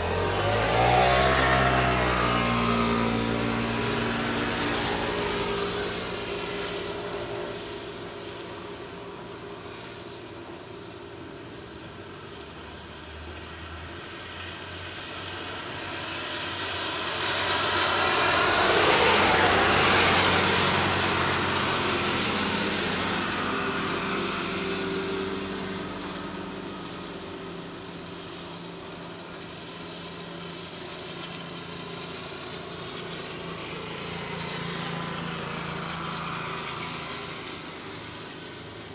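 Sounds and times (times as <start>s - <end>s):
low engine hum: 0.0s - 38.9s
motor vehicle passing by: 0.0s - 38.9s.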